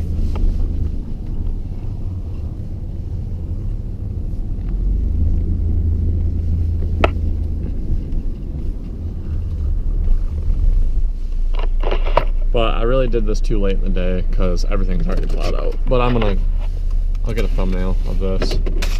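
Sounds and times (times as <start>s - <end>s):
engine and drivetrain rumble: 0.0s - 18.9s.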